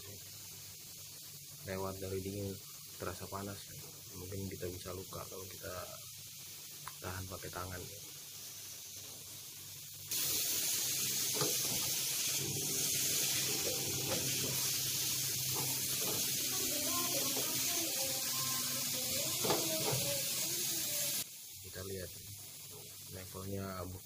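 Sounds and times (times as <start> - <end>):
refrigerant hissing from pipe: 0.0 - 24.0.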